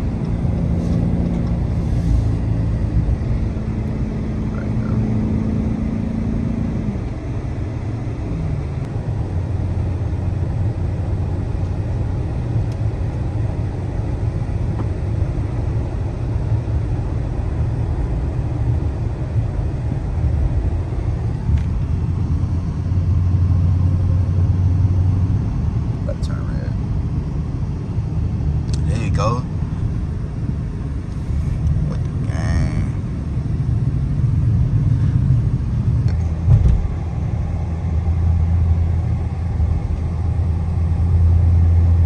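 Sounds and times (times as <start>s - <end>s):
car engine low rumble: 0.0s - 42.0s
road noise: 0.0s - 42.0s.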